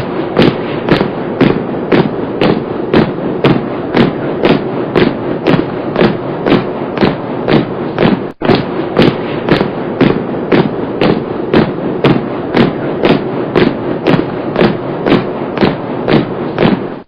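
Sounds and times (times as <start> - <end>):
marching footsteps: 0.0 - 17.0
steady shuffling noise: 0.0 - 17.0.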